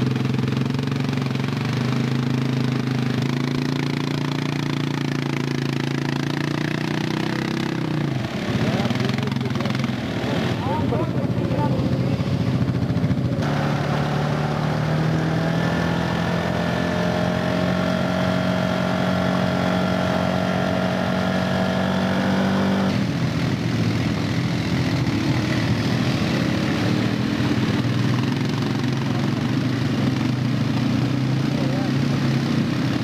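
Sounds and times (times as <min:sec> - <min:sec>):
atv engines straining in mud: 0:00.0 - 0:33.0.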